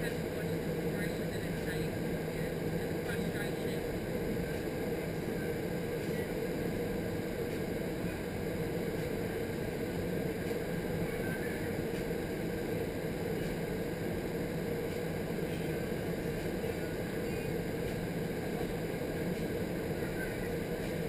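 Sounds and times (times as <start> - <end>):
low fan hum: 0.0 - 21.0
rush of air in wind tunnel: 0.1 - 21.0.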